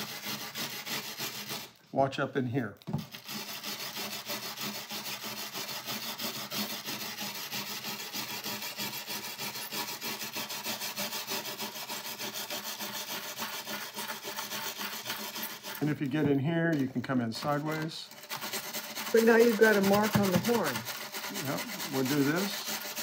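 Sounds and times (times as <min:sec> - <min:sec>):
wire brush scrubbing wood: 0:00.0 - 0:01.8, 0:02.9 - 0:23.0.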